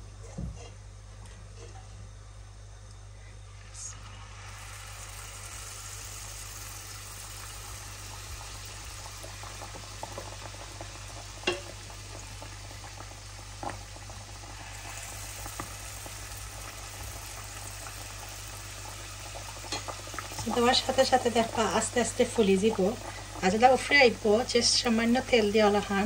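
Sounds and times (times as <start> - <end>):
batter sizzling in hot oil: 3.6 - 26.0.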